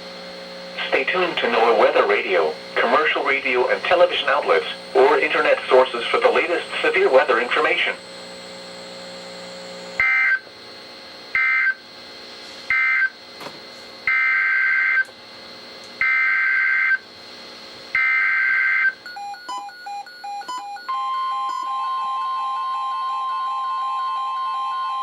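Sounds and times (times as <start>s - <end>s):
steady warning alarm tone: 0.4s - 10.4s, 11.3s - 11.8s, 12.7s - 13.2s, 14.1s - 15.1s, 16.0s - 17.0s, 18.0s - 25.0s.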